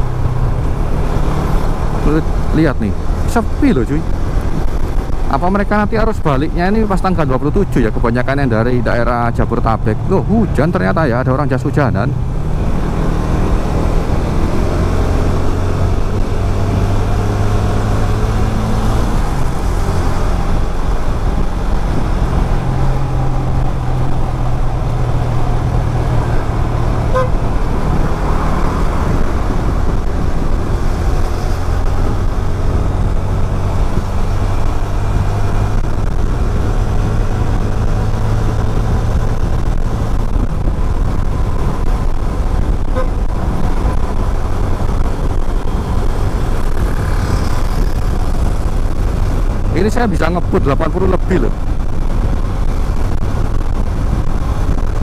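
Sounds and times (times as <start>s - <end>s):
wind rush: 0.0s - 55.0s.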